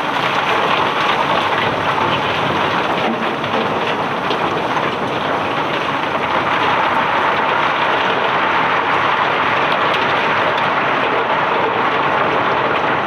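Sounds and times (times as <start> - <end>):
cobblestones pouring and rattling: 0.0 - 13.0.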